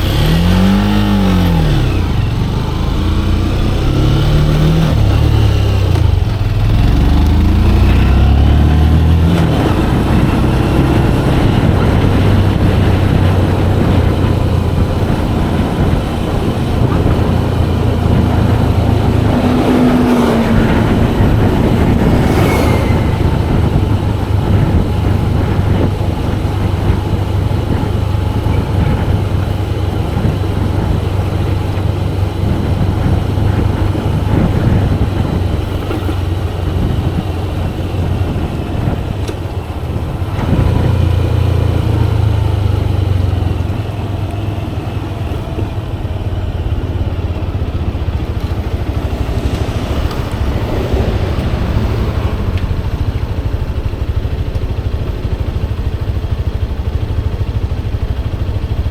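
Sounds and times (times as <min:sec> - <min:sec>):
motorcycle engine accelerating: 0:00.0 - 0:58.9
road and wind noise: 0:00.0 - 0:58.9.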